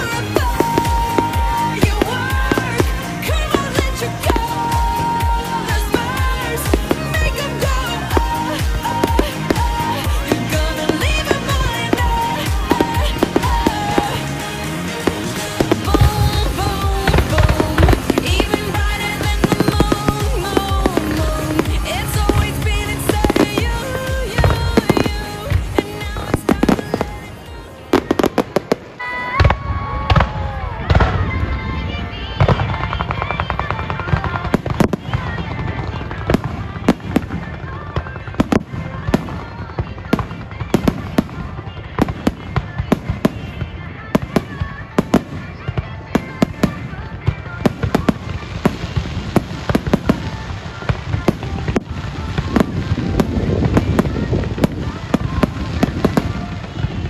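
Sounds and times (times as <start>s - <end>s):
firework bangs and booms: 0.0s - 57.0s
firework crackling: 0.0s - 57.0s.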